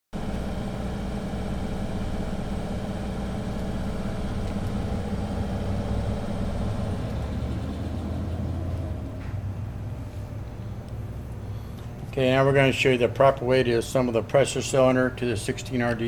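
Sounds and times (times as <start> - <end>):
motor humming steadily: 0.2 - 16.0.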